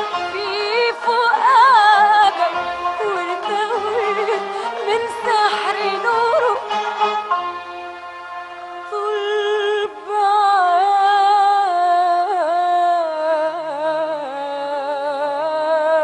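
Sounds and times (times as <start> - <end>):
woman singing wordless melody: 0.0 - 6.8, 8.9 - 16.0.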